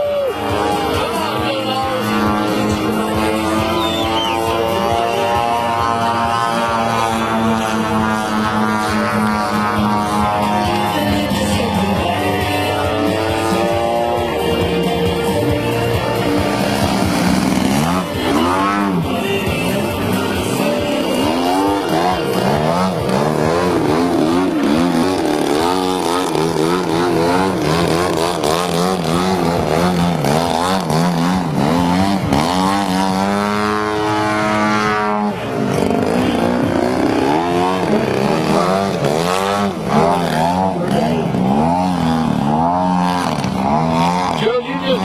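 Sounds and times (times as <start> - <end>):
model airplane engine: 0.0 - 45.0.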